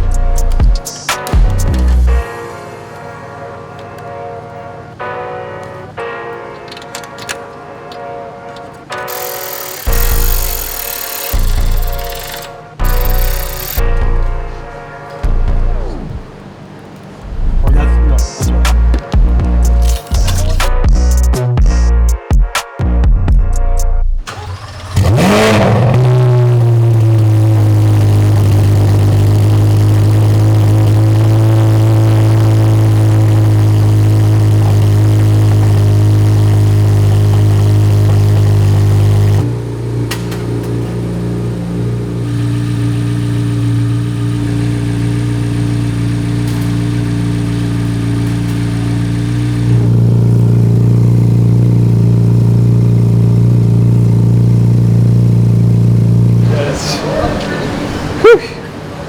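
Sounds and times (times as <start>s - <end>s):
car engine idling: 0.0s - 2.5s, 8.5s - 21.2s, 24.2s - 59.0s.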